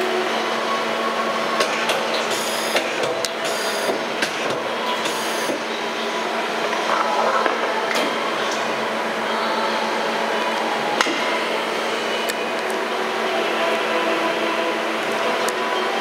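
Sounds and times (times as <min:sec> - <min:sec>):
lathe hum and whine: 0:00.0 - 0:16.0.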